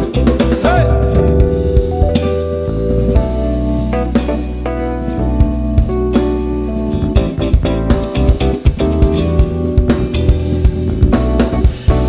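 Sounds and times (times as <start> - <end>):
bass line: 0.0 - 12.0
drum kit with cymbals: 0.0 - 12.0
held chords: 0.0 - 12.0.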